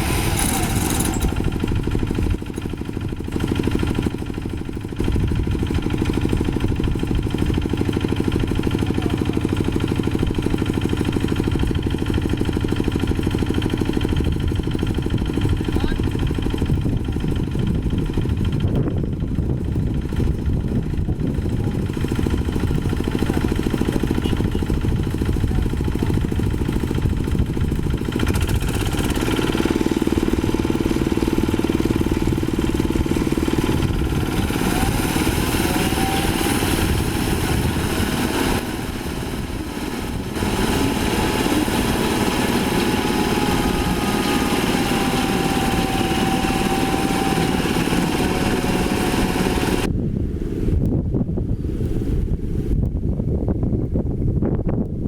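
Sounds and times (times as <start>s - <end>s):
diesel harvester engine running: 0.0s - 50.9s.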